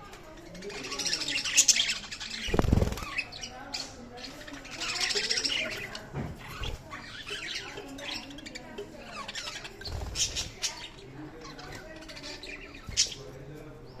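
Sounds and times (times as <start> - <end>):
budgerigars chattering: 0.3 - 14.0.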